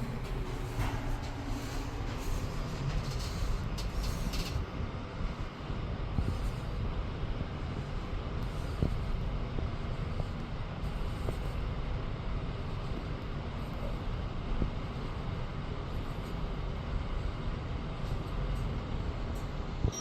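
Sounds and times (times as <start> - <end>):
elevator low rumble: 0.0 - 20.0.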